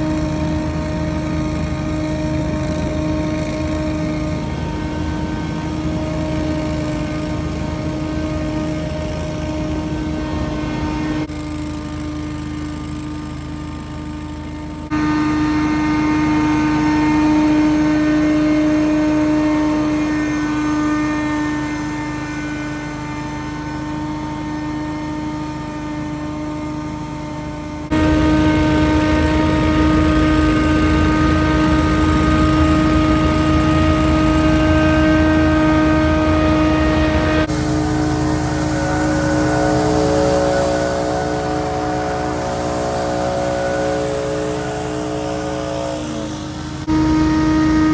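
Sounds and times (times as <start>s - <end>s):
leaf blower running: 0.0s - 47.9s.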